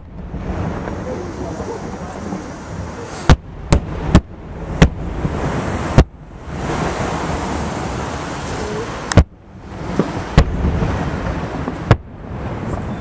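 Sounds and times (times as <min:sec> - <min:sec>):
fireworks bangs: 0:00.0 - 0:13.0
rumbling hiss of fireworks: 0:00.0 - 0:13.0.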